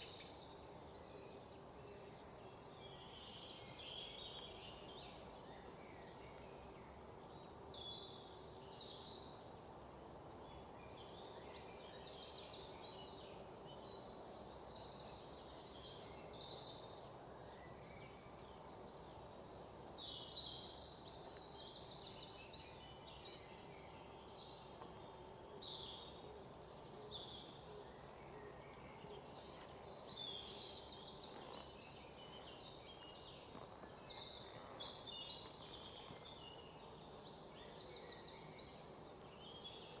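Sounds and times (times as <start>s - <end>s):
faint low background hiss: 0.0s - 40.0s
small birds chirping: 0.0s - 40.0s.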